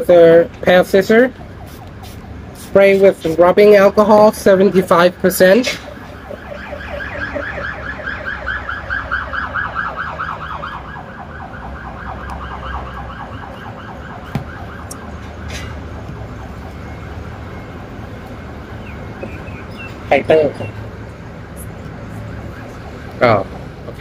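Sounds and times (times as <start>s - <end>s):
ambulance siren warbling yelp: 0.0s - 24.0s.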